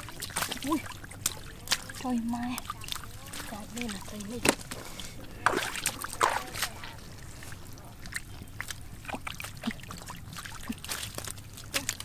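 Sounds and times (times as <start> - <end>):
catfish flopping: 0.0 - 12.0
hands and feet in mud: 0.0 - 12.0
splashes in muddy water: 0.0 - 12.0.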